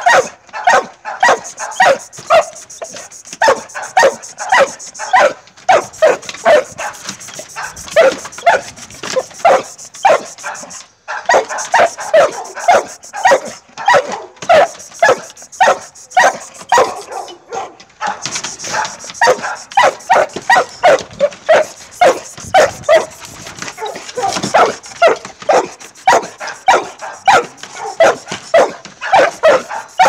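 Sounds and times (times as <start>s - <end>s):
dog barking: 0.0s - 30.0s.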